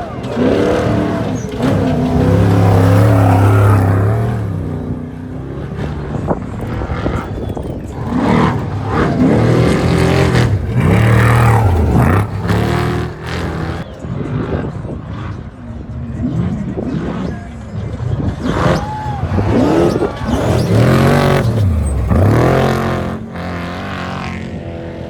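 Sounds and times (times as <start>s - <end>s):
race vehicle engines revving past: 0.0s - 25.0s.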